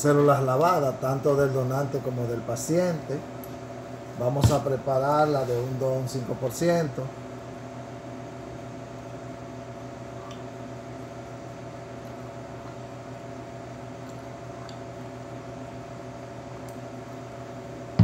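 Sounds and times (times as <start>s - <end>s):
laboratory equipment humming: 0.0s - 18.0s.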